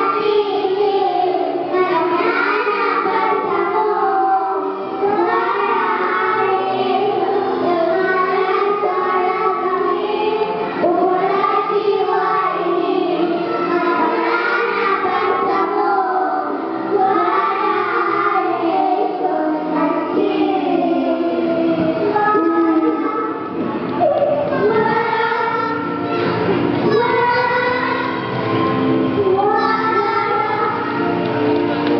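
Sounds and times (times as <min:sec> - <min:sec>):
children singing: 0:00.0 - 0:31.9
musical accompaniment: 0:00.0 - 0:31.9.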